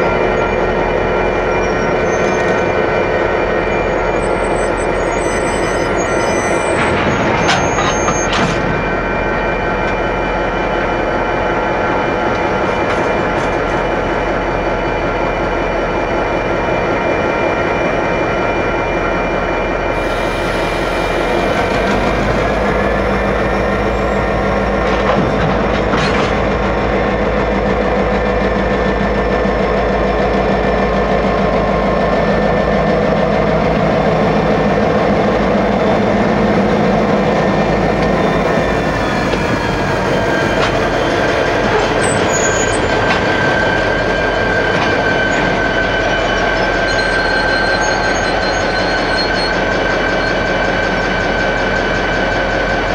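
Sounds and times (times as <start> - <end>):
diesel locomotives running: 0.0 - 52.9.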